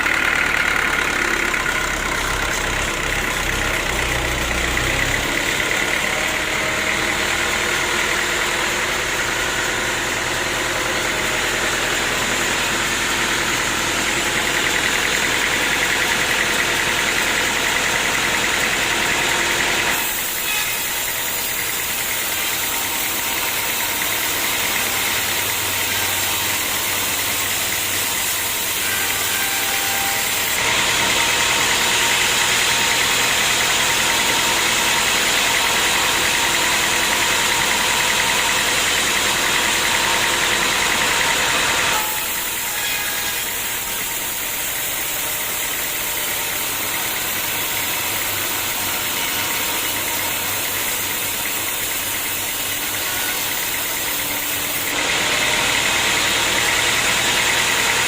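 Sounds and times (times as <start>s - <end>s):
sawmill machinery whining: 0.0s - 58.0s.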